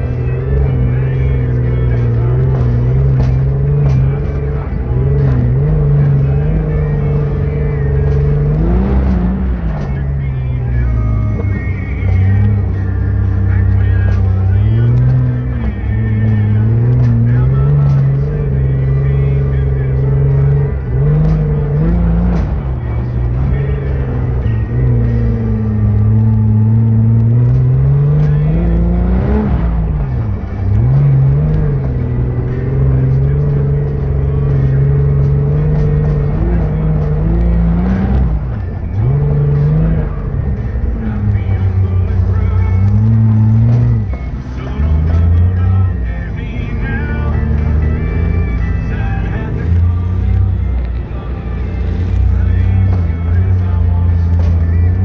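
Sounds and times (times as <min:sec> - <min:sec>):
dune buggy engine running: 0:00.0 - 0:55.0.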